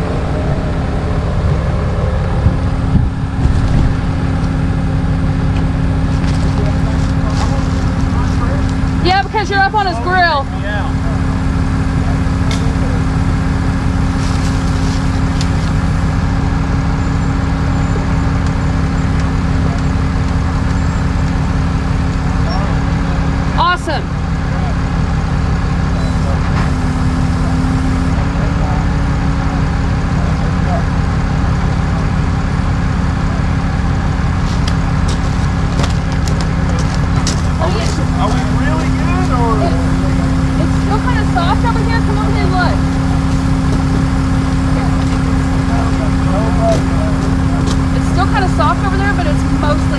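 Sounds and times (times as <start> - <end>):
truck engine running: 0.0 - 49.9.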